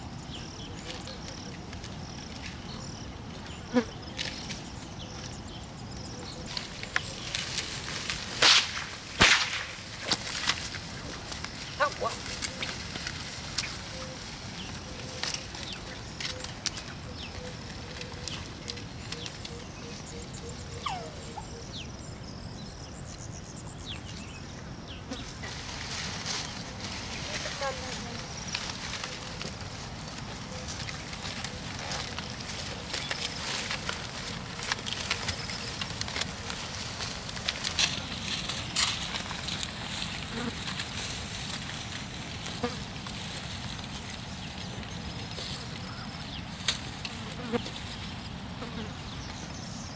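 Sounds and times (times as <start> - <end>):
insects buzzing and trilling: 0.0 - 49.9.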